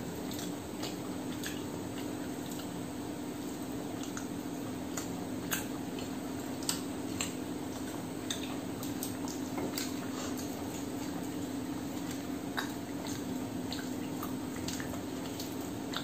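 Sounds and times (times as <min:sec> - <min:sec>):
fingers working food: 0:00.0 - 0:16.0
steady low hum: 0:00.0 - 0:16.0.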